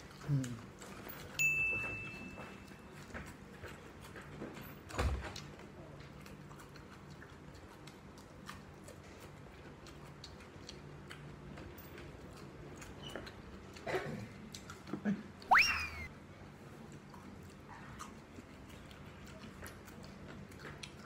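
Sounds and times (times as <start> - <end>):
chewing crisp cucumber: 0.0 - 21.0.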